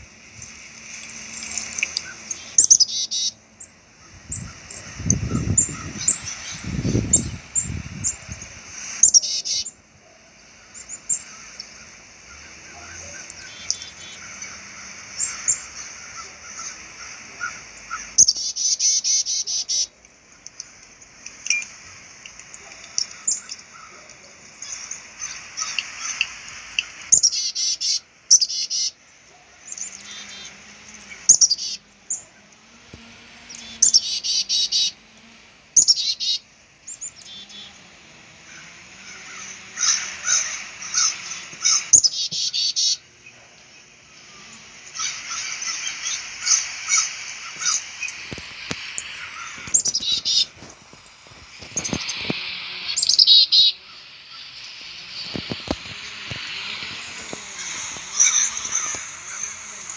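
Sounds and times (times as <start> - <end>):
chickadees calling: 0.0 - 59.9.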